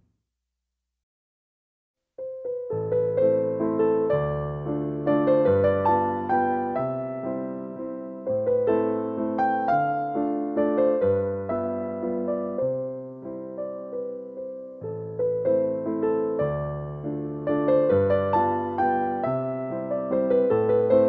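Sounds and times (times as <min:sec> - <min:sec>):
electric piano melody: 0:02.2 - 0:21.0.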